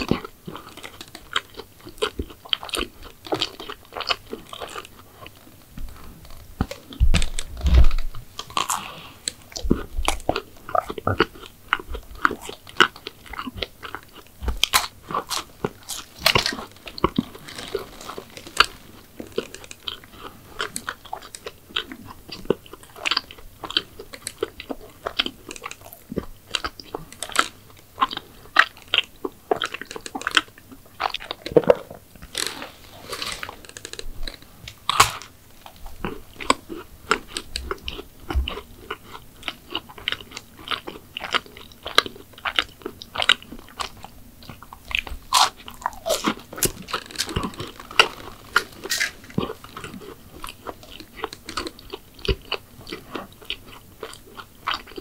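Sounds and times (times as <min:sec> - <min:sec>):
crunching and chewing: 0:00.0 - 0:55.0.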